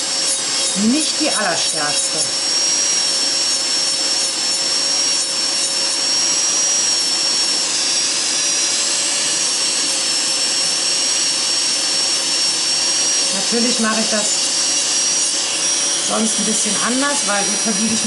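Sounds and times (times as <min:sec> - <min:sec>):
dust extractor fan noise: 0:00.0 - 0:18.0
electric nail drill whine: 0:00.0 - 0:18.0.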